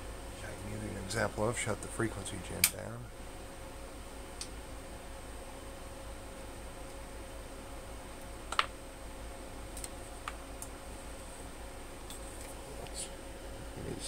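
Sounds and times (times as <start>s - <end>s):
electrical hum: 0.0s - 14.0s
faint high whine: 0.0s - 14.0s.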